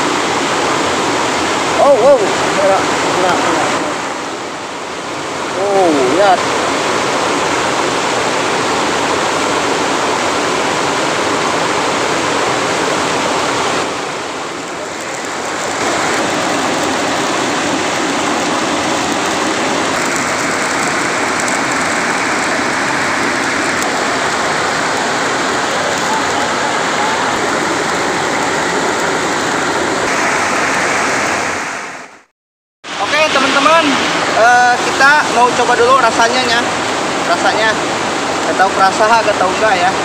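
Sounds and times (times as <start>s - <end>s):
waterfall rushing: 0.0s - 32.3s, 32.9s - 40.0s.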